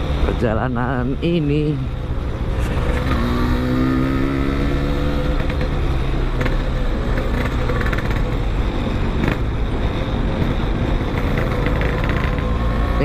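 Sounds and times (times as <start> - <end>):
wind and road noise: 0.0 - 13.0
motorcycle engine running: 1.0 - 13.0.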